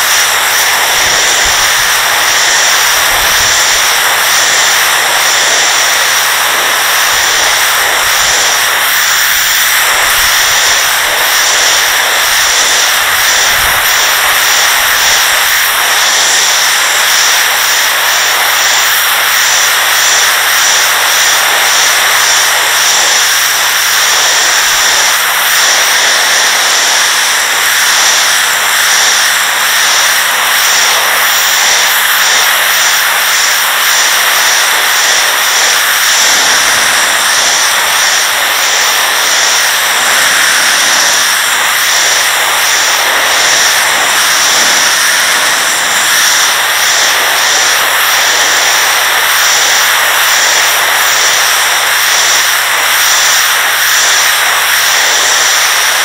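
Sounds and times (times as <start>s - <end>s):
pressure washer jet hissing: 0.0s - 56.0s.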